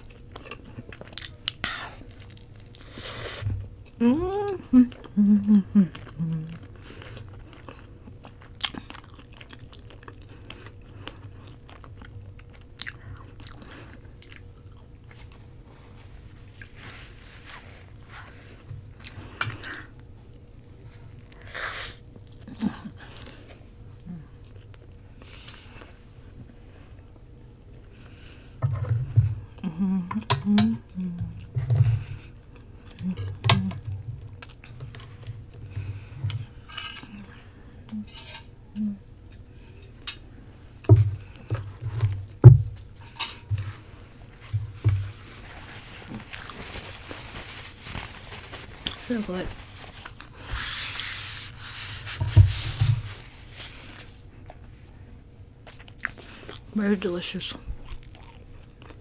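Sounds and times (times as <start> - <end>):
person chewing food: 0.0 - 28.6, 29.3 - 49.0, 55.6 - 56.7, 57.7 - 59.0.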